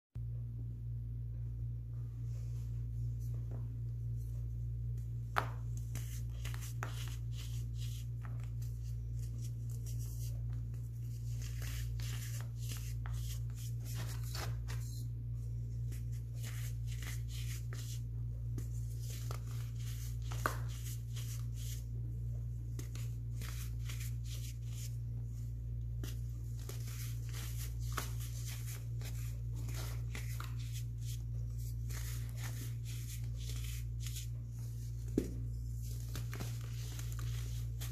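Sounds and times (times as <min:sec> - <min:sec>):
steady low hum: 0:00.2 - 0:37.9.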